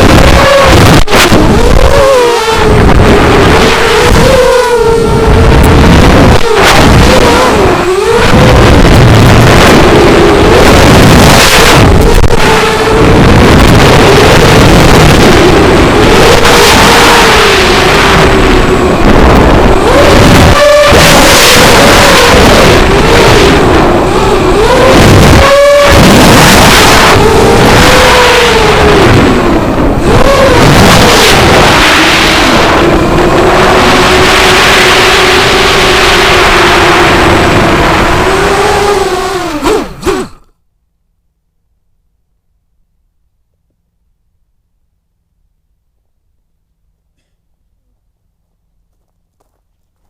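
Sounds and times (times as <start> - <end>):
rush of air noise: 0.0 - 40.5
wind noise on microphone: 0.0 - 40.5
drone motors whining: 0.0 - 40.6.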